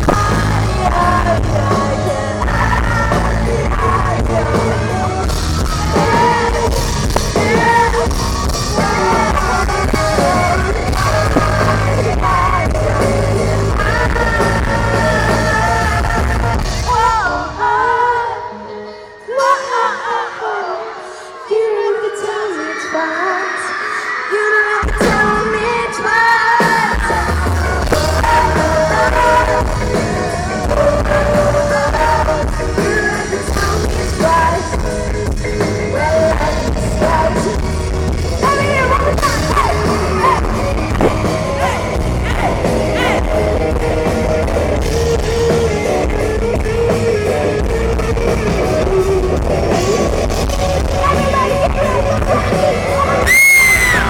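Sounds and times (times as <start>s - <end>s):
person singing: 0.0s - 43.6s
pop-rock band playing live: 0.0s - 54.0s.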